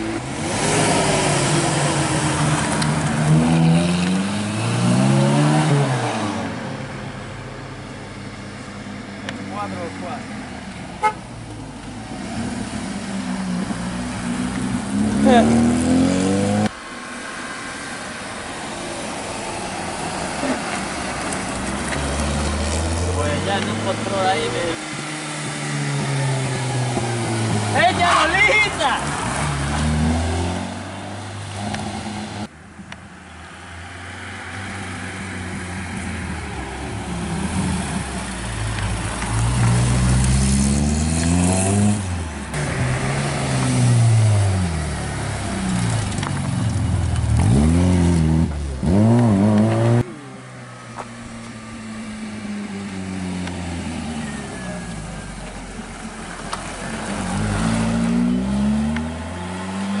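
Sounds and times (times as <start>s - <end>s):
rally car engines revving: 0.0s - 11.1s, 11.8s - 17.3s, 18.6s - 32.5s, 34.0s - 60.0s.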